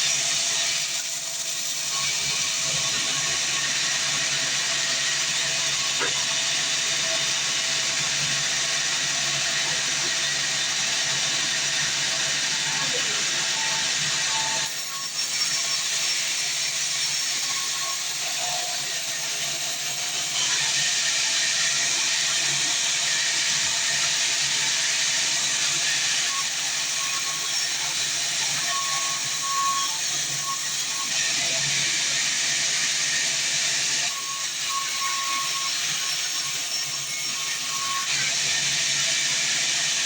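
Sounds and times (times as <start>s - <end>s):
sawmill saw cutting log: 0.0s - 40.0s.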